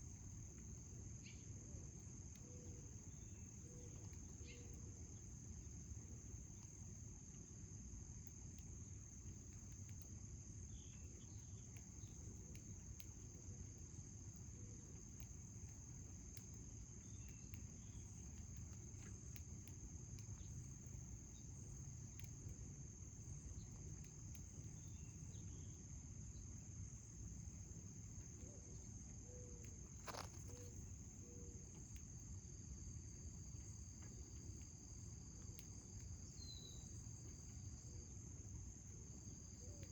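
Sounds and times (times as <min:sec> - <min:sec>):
insects trilling: 0:00.0 - 0:39.9
low background hum: 0:00.0 - 0:39.9.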